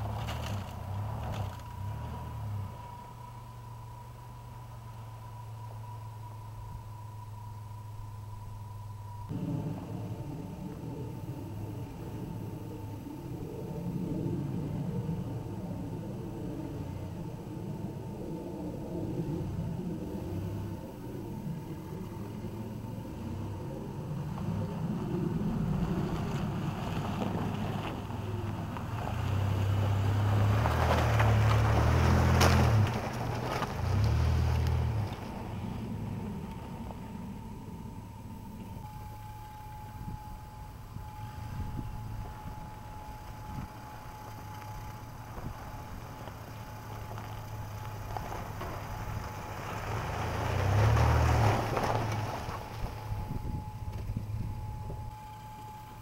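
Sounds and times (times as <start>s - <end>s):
tyres crunching over gravel: 0.0s - 14.0s, 19.2s - 56.0s
pickup truck engine running: 0.0s - 56.0s.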